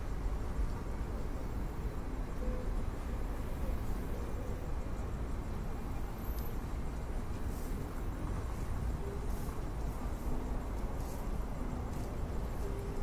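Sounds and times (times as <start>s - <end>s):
faint high insect buzz: 0.0s - 13.0s
low rumble of city traffic: 0.0s - 13.0s.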